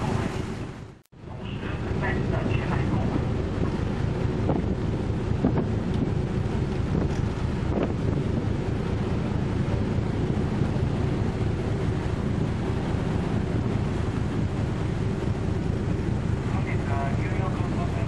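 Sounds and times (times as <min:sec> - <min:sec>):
ship engine rumble: 0:00.0 - 0:18.0
wind buffeting microphone: 0:00.0 - 0:18.0.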